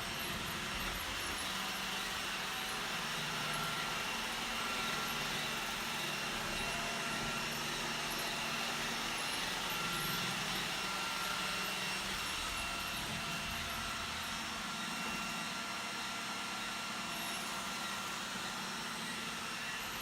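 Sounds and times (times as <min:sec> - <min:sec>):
robot vacuum whirring: 0:00.0 - 0:20.0
thin whining tones: 0:00.0 - 0:20.0.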